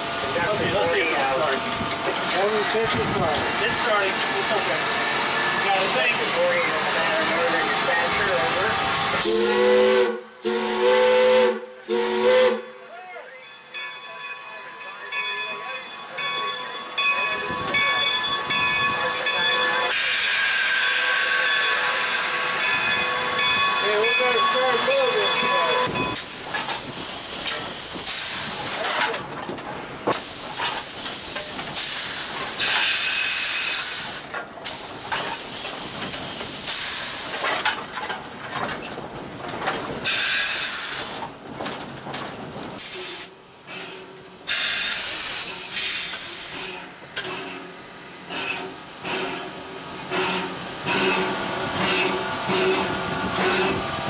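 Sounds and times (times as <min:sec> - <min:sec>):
steam locomotive hissing: 0:00.0 - 0:37.9, 0:38.8 - 0:54.0.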